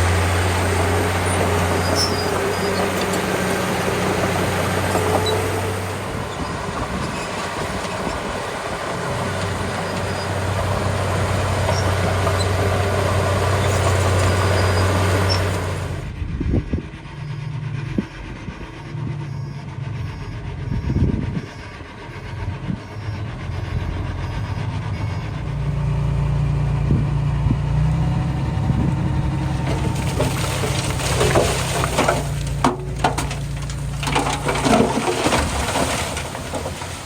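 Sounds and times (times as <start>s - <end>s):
bulldozer diesel engine clattering: 0.0s - 37.0s.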